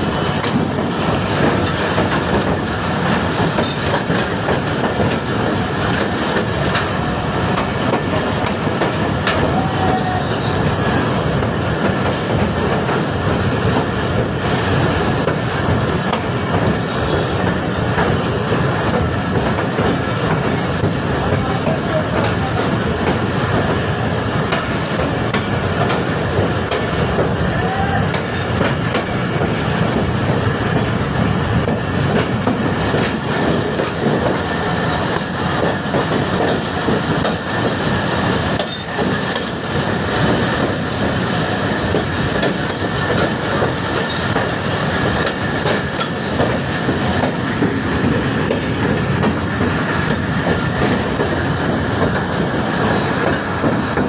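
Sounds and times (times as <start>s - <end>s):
train carriages rumbling: 0.0s - 54.0s
train wheels clicking and clacking: 0.0s - 54.0s.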